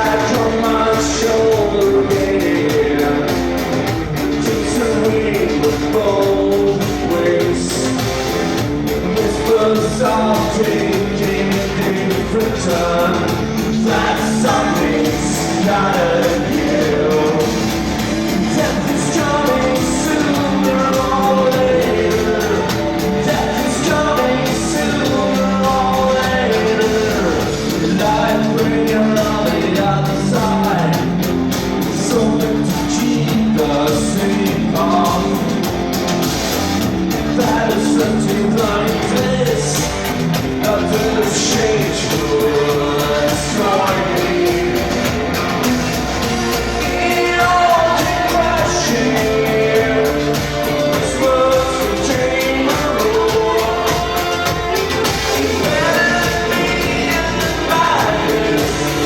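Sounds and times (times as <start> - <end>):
live band playing with singing: 0.0 - 59.0.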